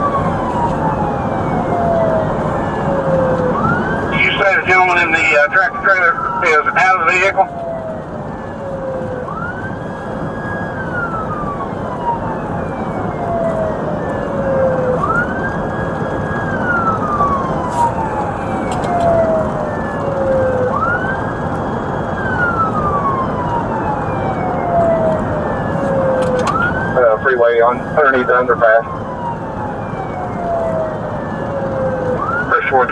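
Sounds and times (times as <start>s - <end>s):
police siren wailing: 0.0s - 32.9s.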